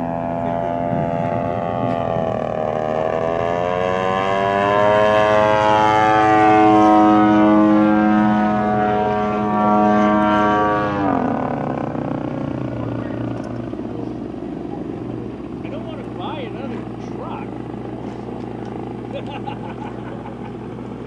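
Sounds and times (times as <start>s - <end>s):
model plane engine running: 0.0s - 21.0s.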